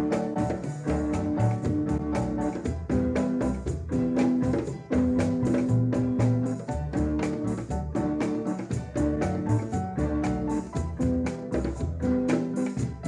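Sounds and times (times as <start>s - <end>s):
bass and drums: 0.0s - 13.0s
keyboard chords: 0.0s - 13.0s.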